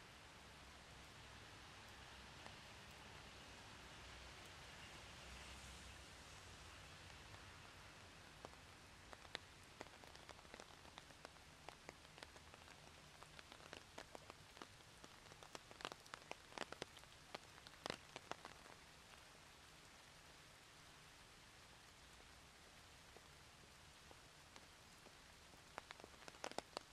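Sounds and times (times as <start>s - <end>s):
rain hiss: 0.0s - 26.9s
raindrops ticking: 0.1s - 26.9s.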